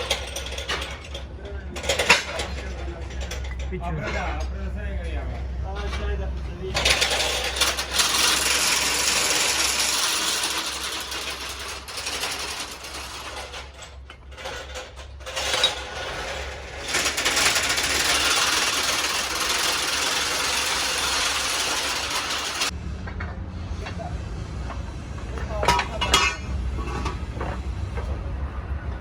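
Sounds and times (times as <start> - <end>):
metalworking machine noise: 0.0 - 29.0.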